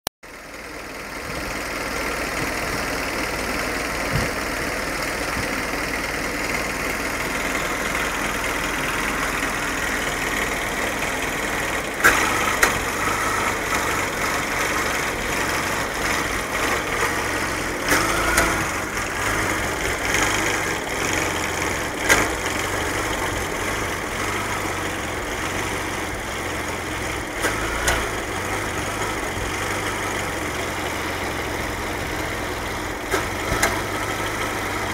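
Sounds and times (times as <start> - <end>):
car engine idling roughly: 0.3 - 34.9.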